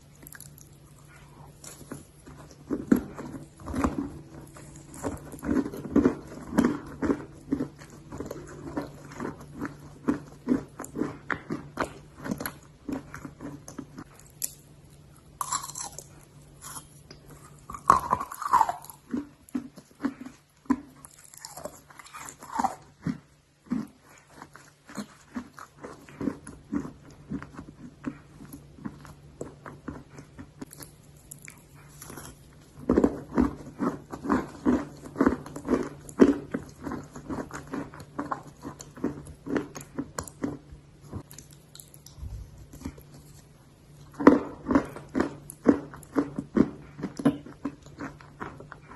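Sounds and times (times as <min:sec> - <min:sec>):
person chewing crunchy clay: 0:00.0 - 0:48.9.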